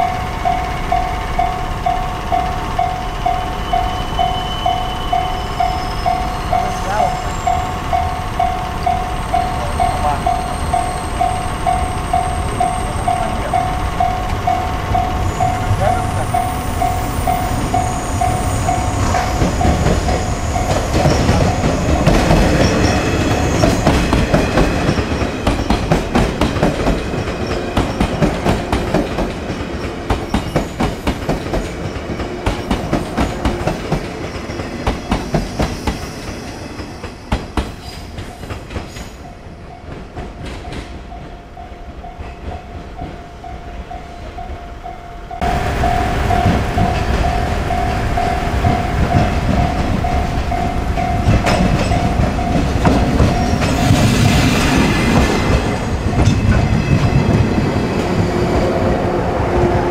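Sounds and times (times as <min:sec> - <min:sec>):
wheels clicking over rail joints: 0:00.0 - 0:41.4, 0:45.4 - 0:57.9
electric train passing: 0:00.0 - 0:59.9.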